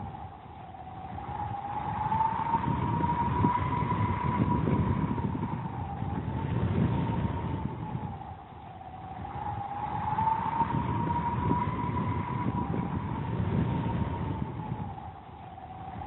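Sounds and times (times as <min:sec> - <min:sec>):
low rumble: 0:00.0 - 0:16.0
wavering high drone tone: 0:00.0 - 0:16.0.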